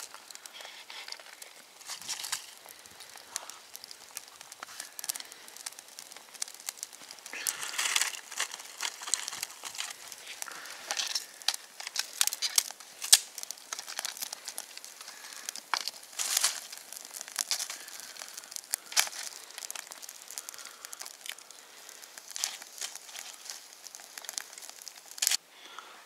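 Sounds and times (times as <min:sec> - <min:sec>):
twigs and leaves rustling: 0:00.0 - 0:25.4
fire crackling: 0:00.0 - 0:26.0.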